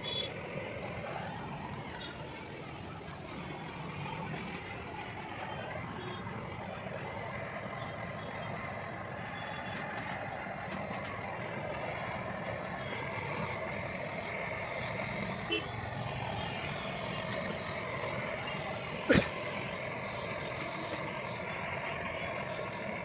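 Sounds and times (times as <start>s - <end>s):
torch burning with steady hiss: 0.0s - 23.0s.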